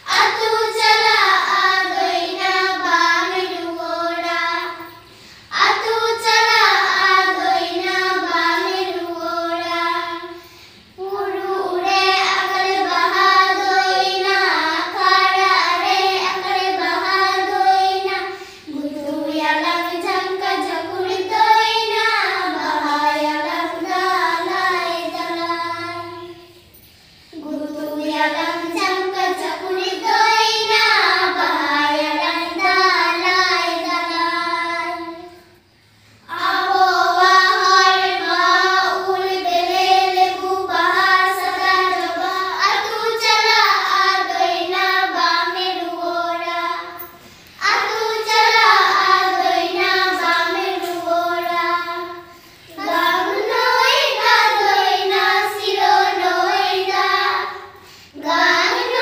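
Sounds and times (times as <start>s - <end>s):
girls singing: 0.0s - 59.0s.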